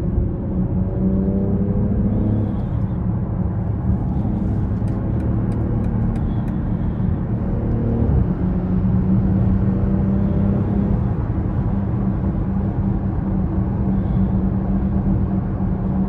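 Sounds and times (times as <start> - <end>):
car engine hum: 0.0 - 16.0
tyres rumbling on road: 0.0 - 16.0.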